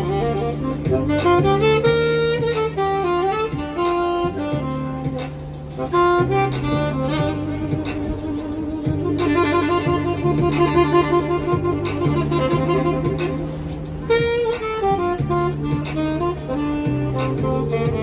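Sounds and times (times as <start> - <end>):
light beat: 0.0 - 18.0
saxophone melody: 0.0 - 18.0.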